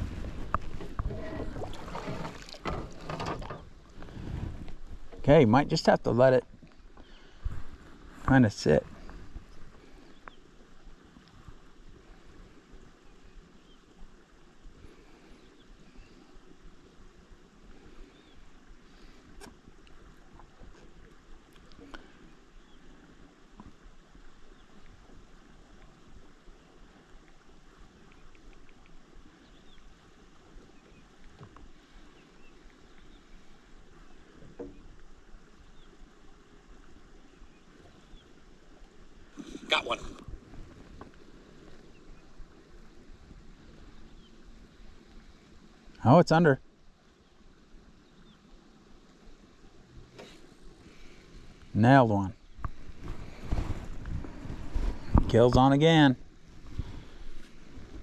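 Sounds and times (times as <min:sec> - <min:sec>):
light wind: 0:00.0 - 0:58.0
water movement: 0:00.0 - 0:58.0.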